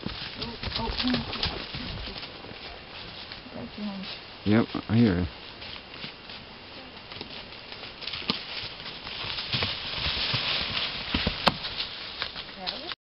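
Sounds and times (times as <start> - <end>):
hooves crunching dry leaves: 0.0 - 13.0.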